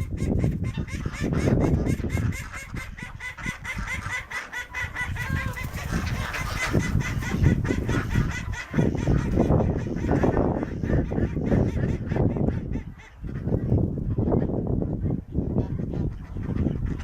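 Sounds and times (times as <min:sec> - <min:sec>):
poultry calling: 0:00.1 - 0:14.6.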